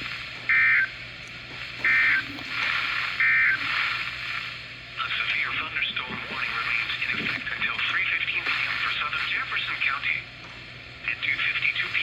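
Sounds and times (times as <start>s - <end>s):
radio hiss: 1.6s - 10.4s, 11.0s - 12.0s.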